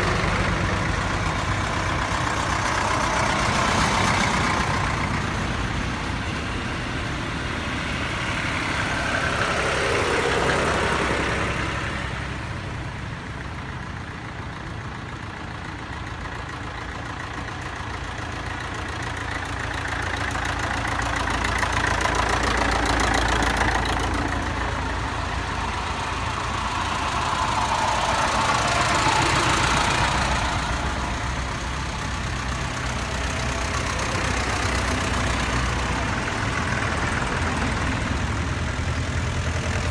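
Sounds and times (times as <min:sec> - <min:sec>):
tractor engines passing: 0:00.0 - 0:39.9.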